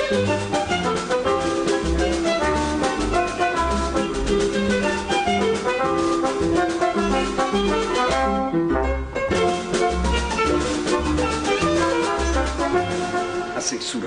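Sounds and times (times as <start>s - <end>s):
orchestra playing dance music: 0.0s - 14.0s.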